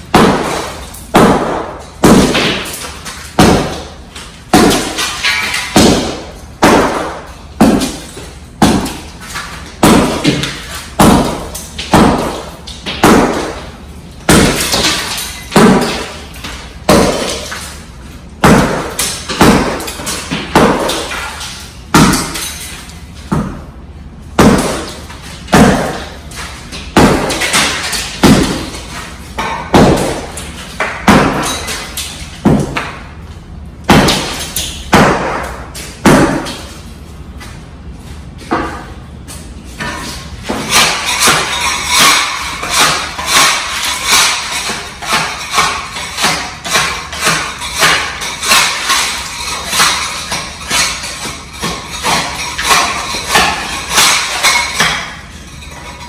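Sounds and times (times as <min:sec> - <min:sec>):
sledgehammer striking floor: 0:00.0 - 0:17.8, 0:18.4 - 0:23.7, 0:24.3 - 0:33.2, 0:33.8 - 0:37.6, 0:38.4 - 0:56.0
tile shards scattering: 0:00.1 - 0:17.8, 0:18.4 - 0:22.9, 0:24.4 - 0:32.9, 0:33.9 - 0:36.8, 0:39.8 - 0:56.0.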